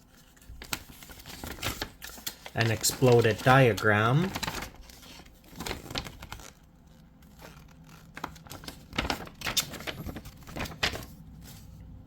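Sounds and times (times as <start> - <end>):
paper rustling and crinkling: 0.0 - 11.9.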